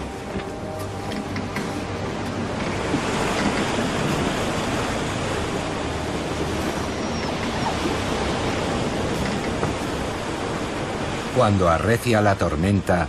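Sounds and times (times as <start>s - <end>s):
wind blowing: 0.0s - 11.8s
rough sea breaking on ship hull: 0.0s - 13.0s.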